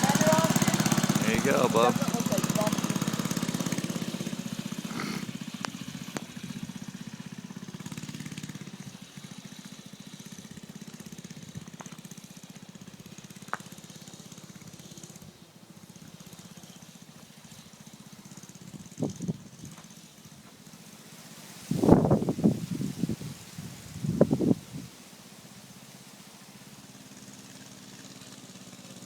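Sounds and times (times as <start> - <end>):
small engine putter: 0.0 - 21.1, 25.0 - 29.0.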